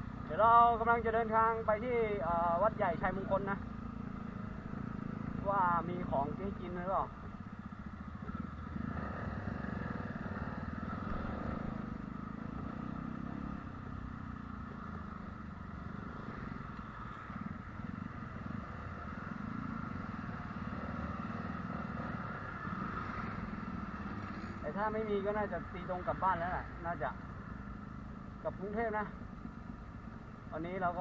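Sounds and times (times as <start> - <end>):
road noise: 0.0 - 31.0.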